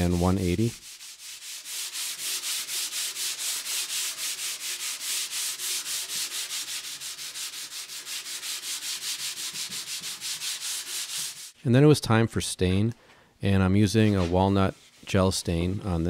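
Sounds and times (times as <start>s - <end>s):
sandpaper rasping on wood: 0.0s - 11.6s, 14.0s - 15.6s.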